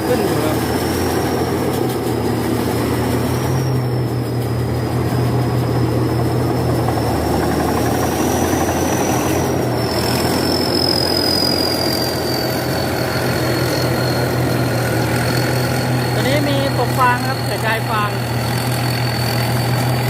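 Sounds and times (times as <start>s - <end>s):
thin high whine: 0.0s - 20.0s
tractor diesel engine running: 0.0s - 20.0s.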